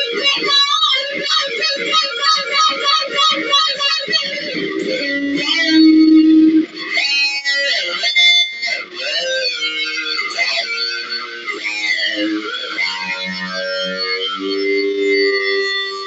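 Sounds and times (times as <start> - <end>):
fast electric guitar solo: 0.0 - 16.0.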